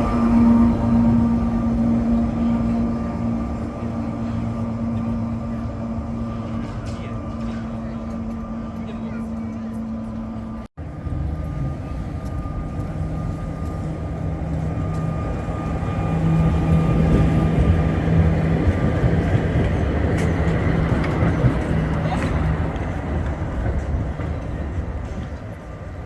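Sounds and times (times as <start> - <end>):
tram motor hum: 0.0 - 26.0
wheels rattling on rails: 0.0 - 26.0.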